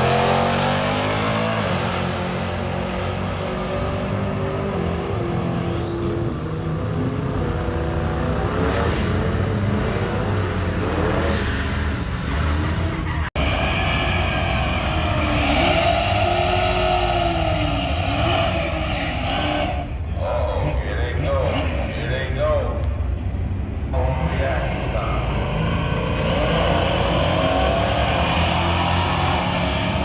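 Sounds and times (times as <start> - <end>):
engine pitch rising and falling: 0.0 - 22.4, 24.0 - 30.0
car engines revving: 0.0 - 30.0.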